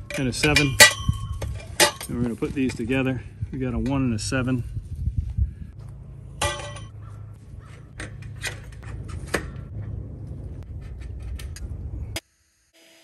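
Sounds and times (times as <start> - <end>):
wind rumble on microphone: 0.0 - 12.2.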